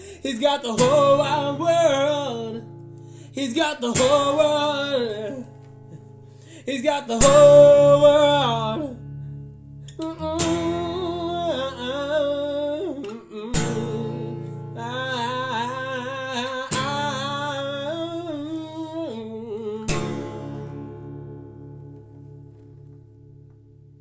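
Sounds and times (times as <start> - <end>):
guitar: 0.0 - 24.0.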